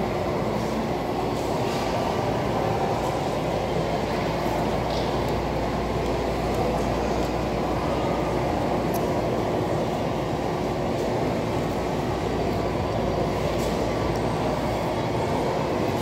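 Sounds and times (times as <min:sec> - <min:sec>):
food court background din: 0:00.0 - 0:16.0.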